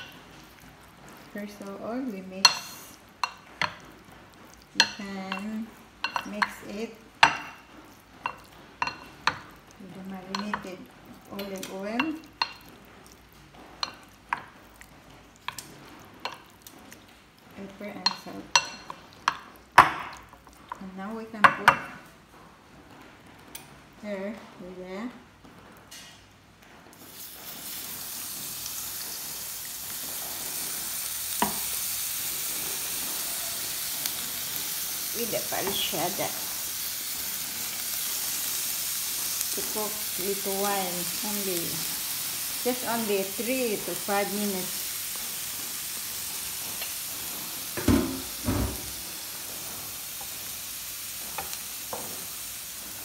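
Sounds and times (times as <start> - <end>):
seafood sizzling on a hot grill: 0.0 - 20.4, 27.0 - 53.0.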